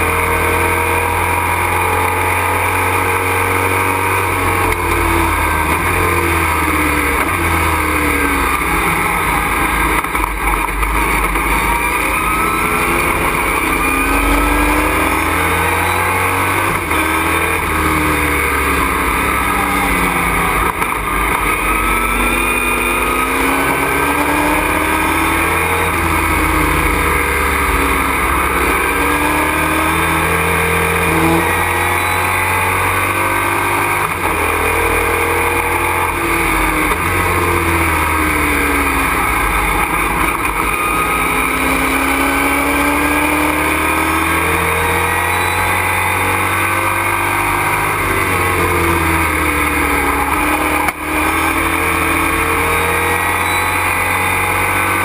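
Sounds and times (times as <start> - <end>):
race truck engine revving: 0.0 - 55.0
road and wind noise: 0.0 - 55.0.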